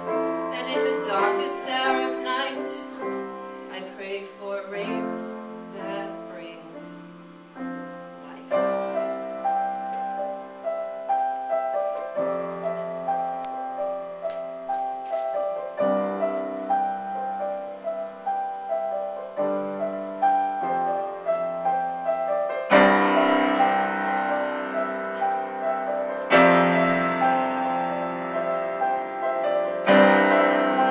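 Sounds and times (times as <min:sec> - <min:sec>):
slow solo piano chords: 0:00.0 - 0:30.9.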